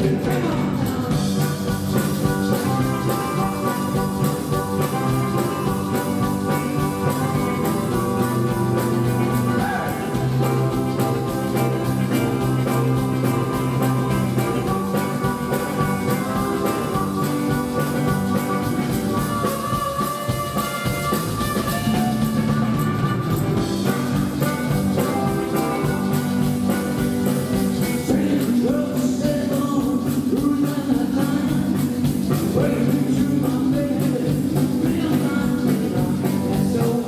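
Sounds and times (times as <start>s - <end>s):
drum kit beat: 0.0s - 37.0s
electric guitars: 0.0s - 37.0s.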